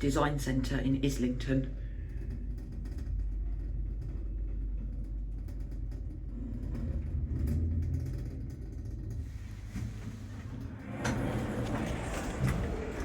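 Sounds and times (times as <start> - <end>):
passenger lift running: 0.0 - 13.0.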